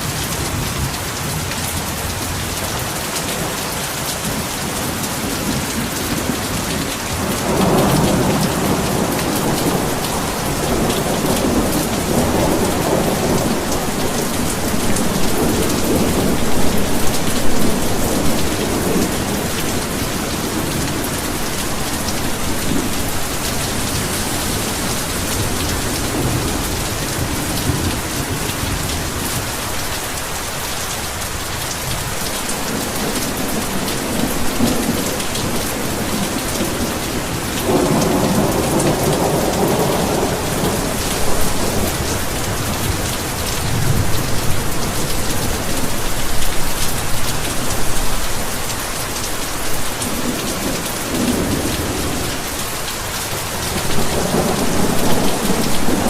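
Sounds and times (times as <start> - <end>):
heavy rain falling: 0.0 - 56.0
thunder rumbling: 5.6 - 30.1, 31.9 - 56.0.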